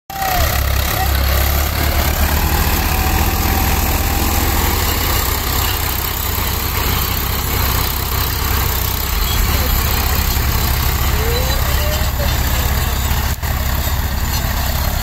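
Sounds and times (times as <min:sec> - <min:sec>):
diesel tractor engines running: 0:00.1 - 0:15.0.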